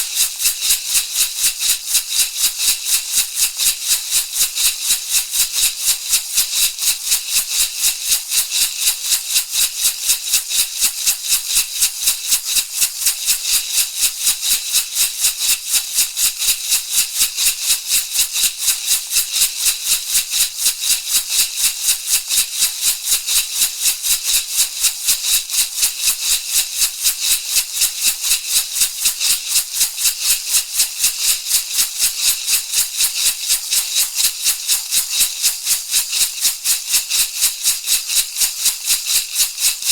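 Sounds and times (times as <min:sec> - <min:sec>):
rattle shaken rhythmically: 0:00.0 - 0:39.9.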